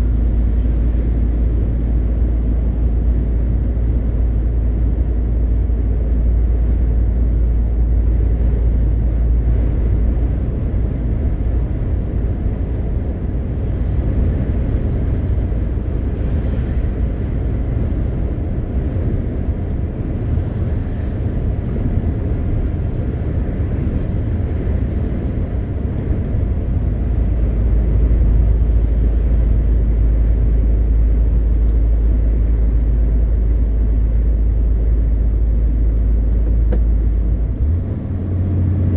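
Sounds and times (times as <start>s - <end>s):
road noise: 0.0s - 38.9s
truck diesel engine rumble: 0.0s - 38.9s.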